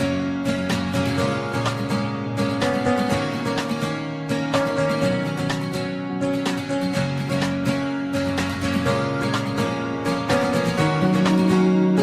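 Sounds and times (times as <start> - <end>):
strummed guitar chords: 0.0 - 12.0.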